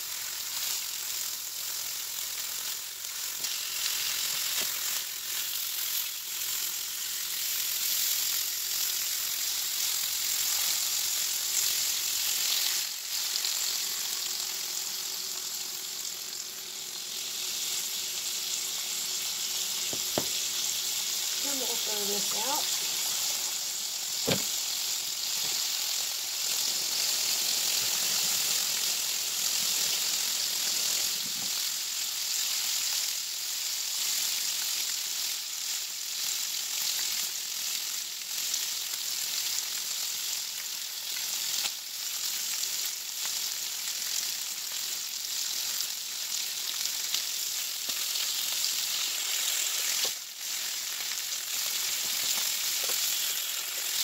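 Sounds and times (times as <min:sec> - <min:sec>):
bacon sizzling in a skillet: 0:00.0 - 0:54.0.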